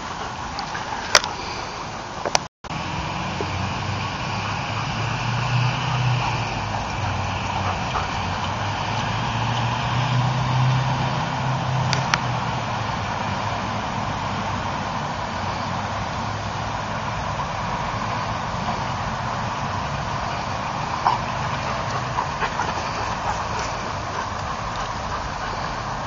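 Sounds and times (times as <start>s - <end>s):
passing traffic rumble: 0.0s - 26.0s.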